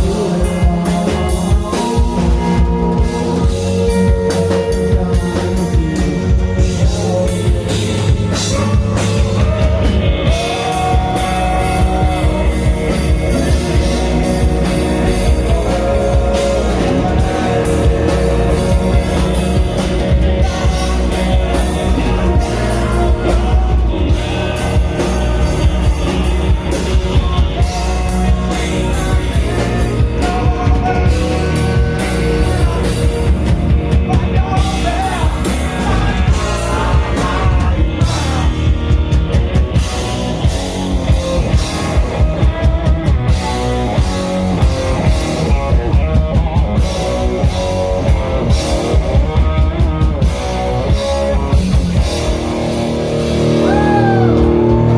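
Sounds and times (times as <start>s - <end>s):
drum kit beat: 0.0s - 54.9s
electric guitar: 0.0s - 54.9s
rock band playing: 0.0s - 54.9s.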